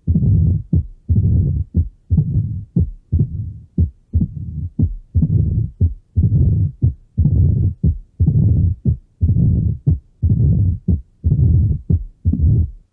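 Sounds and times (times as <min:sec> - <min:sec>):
heartbeat with murmur: 0:00.0 - 0:12.9.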